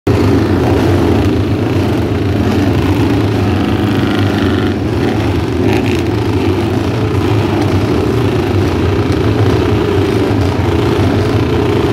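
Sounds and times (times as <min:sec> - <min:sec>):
motorcycle engines revving: 0:00.1 - 0:11.9.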